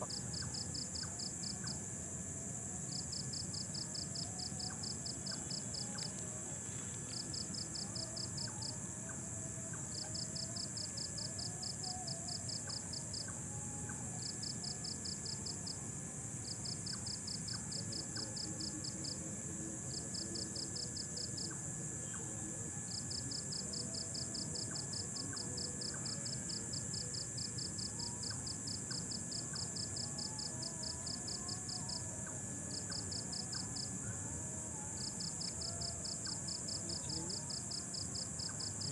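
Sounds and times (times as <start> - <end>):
cricket trill: 0.0 - 38.9
night insects chorus: 0.0 - 38.9.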